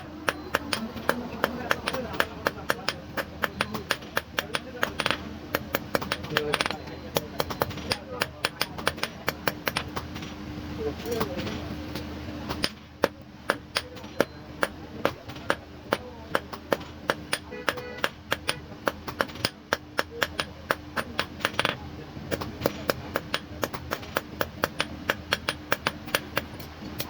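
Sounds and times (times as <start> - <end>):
hammer striking steel on anvil: 0.0 - 10.0, 12.6 - 26.6.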